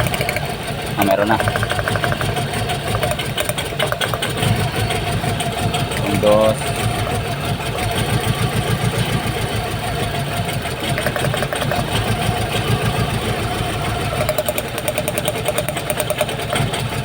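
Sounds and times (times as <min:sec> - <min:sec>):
engine idling unevenly: 0:00.0 - 0:17.0.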